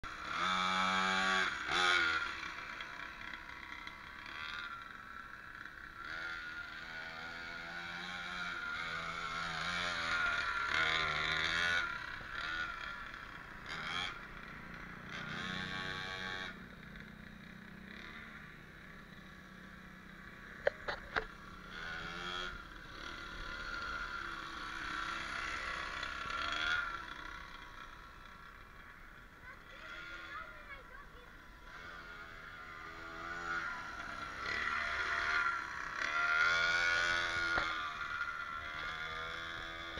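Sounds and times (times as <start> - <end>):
small engine buzzing: 0.0 - 39.9.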